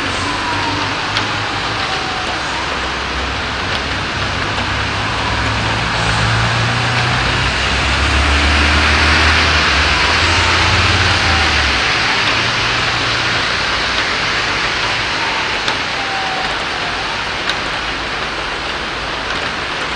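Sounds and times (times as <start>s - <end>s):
heavy rain on street: 0.0s - 19.9s
vehicle engine hum: 0.0s - 19.9s.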